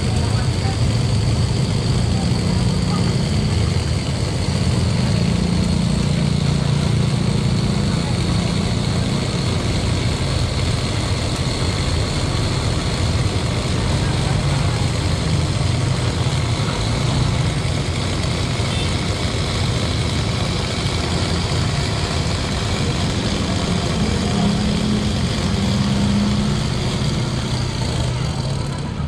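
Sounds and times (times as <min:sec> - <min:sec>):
cotton candy machine humming: 0:00.0 - 0:29.0.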